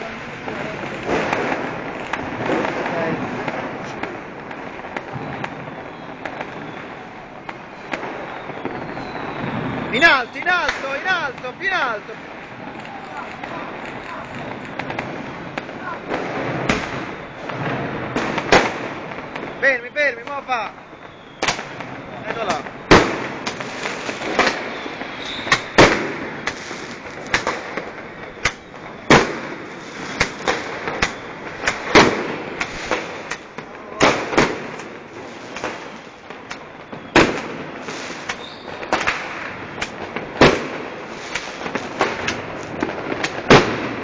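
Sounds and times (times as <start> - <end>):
crackling hiss: 0.0 - 44.0
firecrackers popping: 0.0 - 44.0
fireworks bangs: 0.0 - 44.0.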